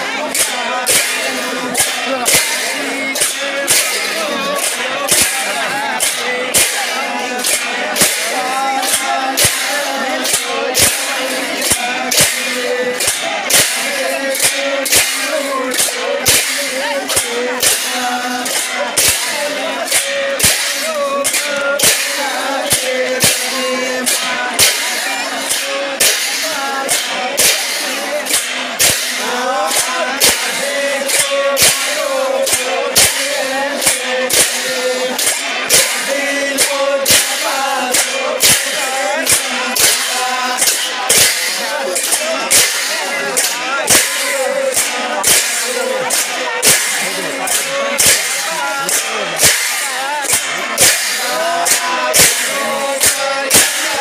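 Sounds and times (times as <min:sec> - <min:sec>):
hand cymbals clashing: 0:00.0 - 0:54.0
men chanting: 0:00.0 - 0:54.0.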